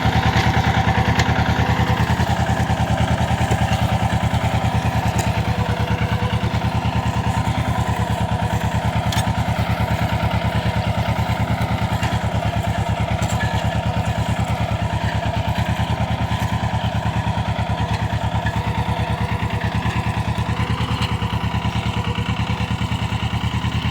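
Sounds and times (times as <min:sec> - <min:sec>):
tractor diesel engine chugging: 0:00.0 - 0:23.9.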